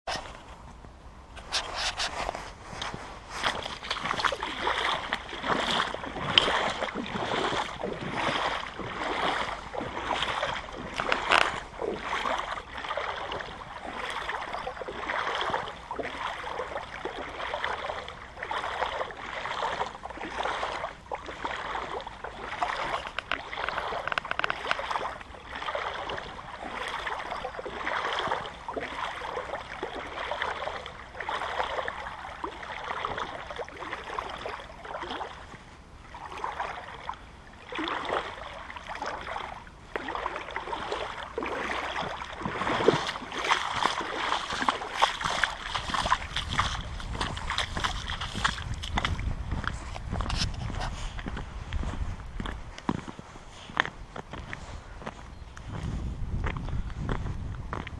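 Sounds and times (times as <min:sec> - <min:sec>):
wading through shallow water: 0:00.0 - 0:57.9.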